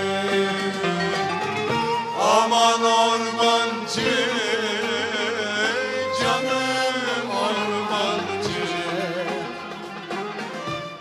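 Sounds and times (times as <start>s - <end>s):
folk ensemble with cello and strings: 0.0s - 11.0s.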